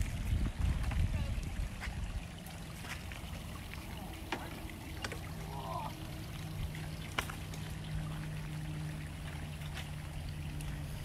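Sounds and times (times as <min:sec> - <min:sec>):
steady low hum: 0:00.0 - 0:11.0
water trickling: 0:00.0 - 0:11.0.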